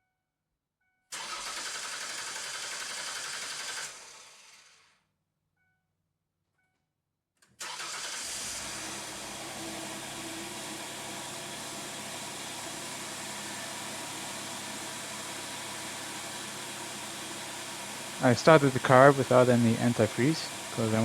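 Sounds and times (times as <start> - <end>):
car engine starting and idling: 1.1 - 4.9, 7.6 - 21.0.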